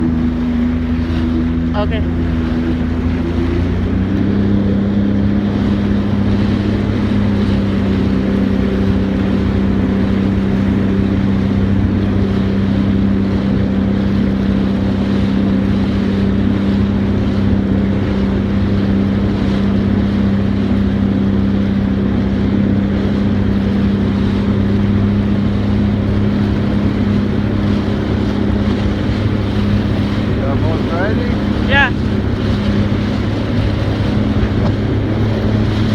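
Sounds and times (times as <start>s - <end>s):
water rushing: 0.0s - 35.9s
watercraft engine droning: 0.0s - 35.9s
wind: 0.0s - 35.9s.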